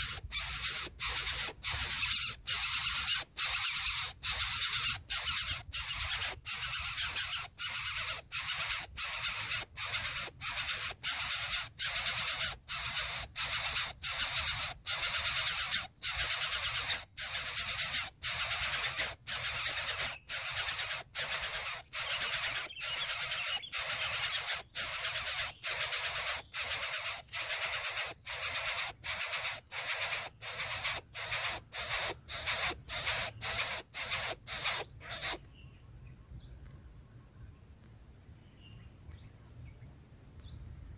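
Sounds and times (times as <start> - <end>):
nestlings hissing: 0.0 - 35.4.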